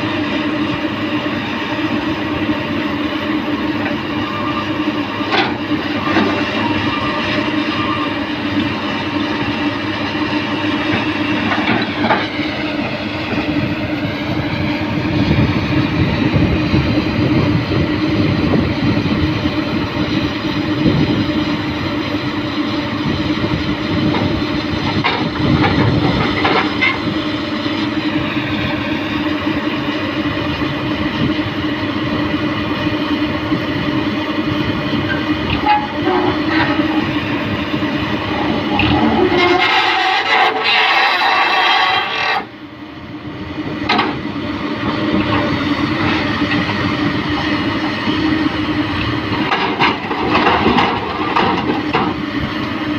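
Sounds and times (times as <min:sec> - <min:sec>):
excavator diesel engine drone: 0:00.0 - 0:52.9.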